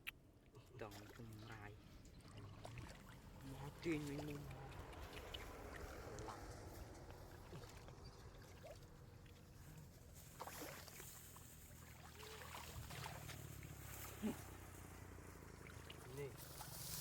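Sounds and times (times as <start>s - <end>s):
water sloshing and splashing: 0.2s - 17.0s.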